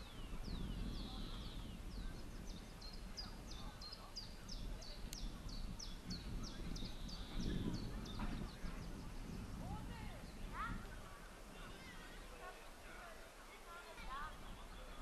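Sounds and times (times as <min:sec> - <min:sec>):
crowd murmur: 0:00.0 - 0:15.0.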